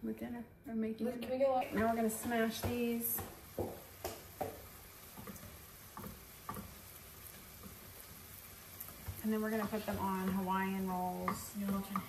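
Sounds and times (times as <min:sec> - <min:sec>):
patties sizzling in a frying pan: 0:01.6 - 0:12.0.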